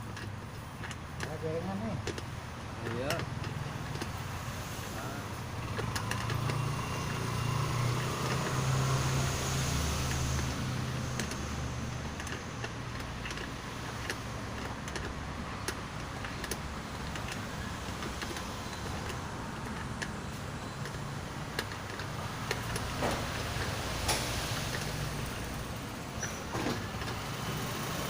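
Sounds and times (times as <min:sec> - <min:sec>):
passing motor vehicle engine rumble: 0:00.0 - 0:28.0.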